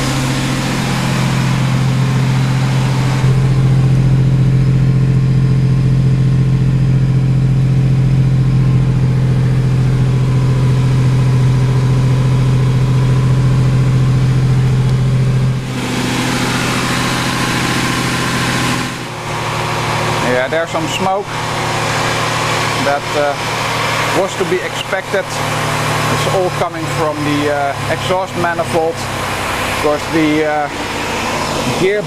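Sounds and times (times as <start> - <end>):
engine running at raised revs: 0.0 - 32.0.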